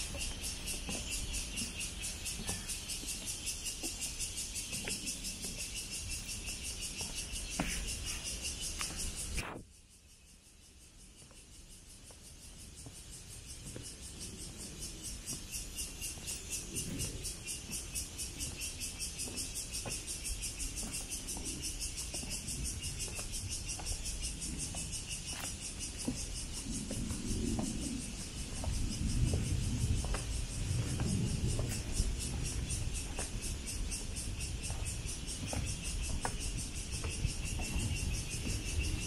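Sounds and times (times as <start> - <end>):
cicadas buzzing: 0.0 - 39.0.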